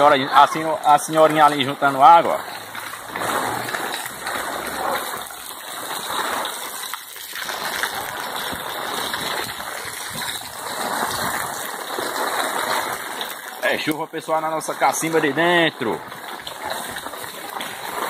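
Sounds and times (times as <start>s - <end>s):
rain on cobblestones: 0.0s - 18.0s
water splashing and running: 0.0s - 18.0s.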